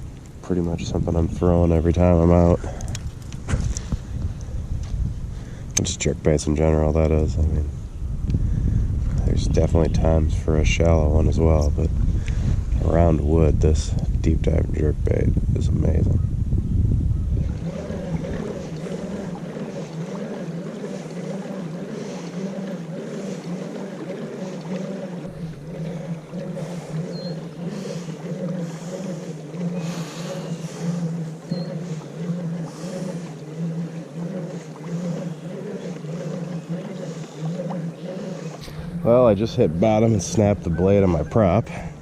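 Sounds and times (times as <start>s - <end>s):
pedal drive propeller humming: 0.0s - 42.0s.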